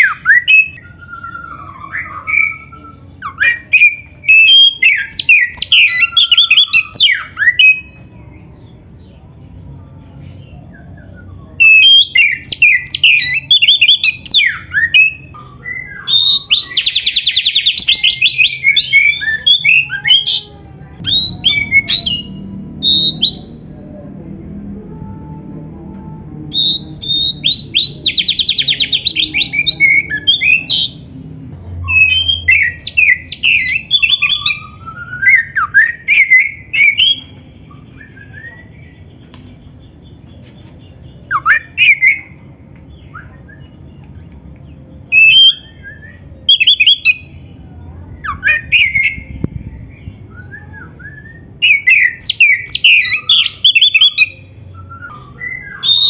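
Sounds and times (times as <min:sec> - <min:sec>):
bird singing varied song: 0:00.0 - 0:23.8, 0:26.4 - 0:56.0.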